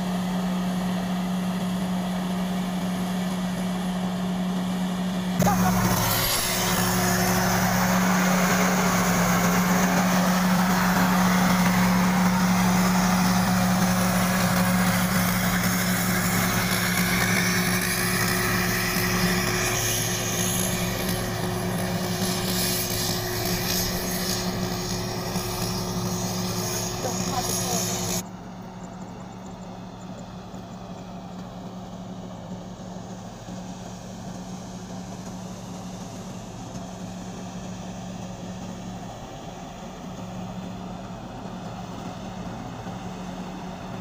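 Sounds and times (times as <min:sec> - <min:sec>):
combine harvester engine drone: 0:00.0 - 0:44.0.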